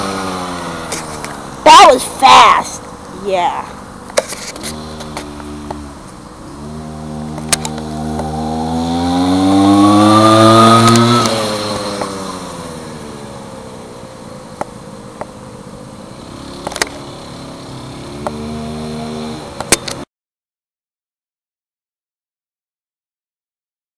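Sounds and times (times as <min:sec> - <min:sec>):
scooter engine passing at high revs: 0:00.0 - 0:20.1.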